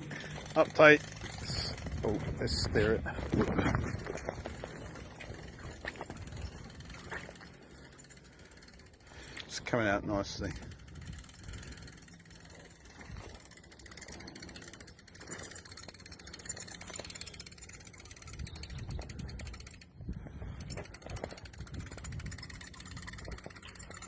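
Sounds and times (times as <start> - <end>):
hand winch ratcheting clicks: 0.0 - 24.0.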